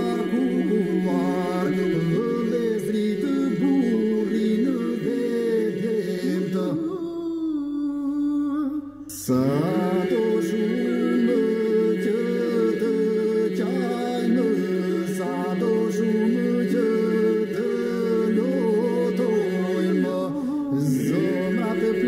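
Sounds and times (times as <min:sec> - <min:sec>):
men singing unaccompanied polyphony: 0:00.0 - 0:22.0.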